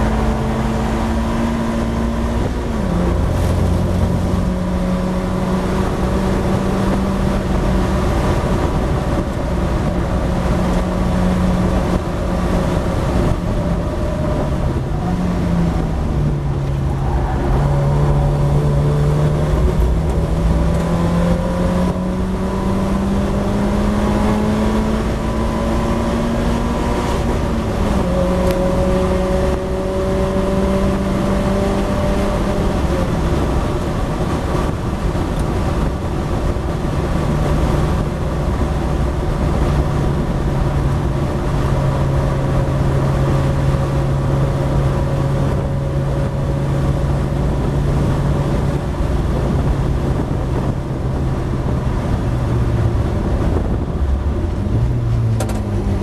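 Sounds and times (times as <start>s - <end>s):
race car engine at full throttle: 0.0s - 56.0s
wind and road noise: 0.0s - 56.0s.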